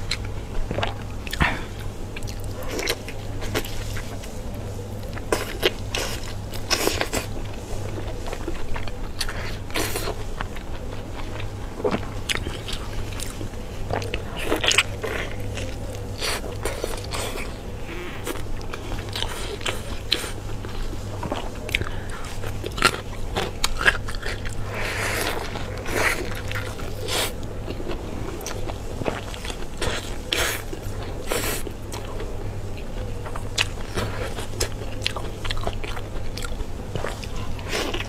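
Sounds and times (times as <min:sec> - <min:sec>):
biting and chewing food: 0:00.0 - 0:38.0
steady low hum: 0:00.0 - 0:38.0.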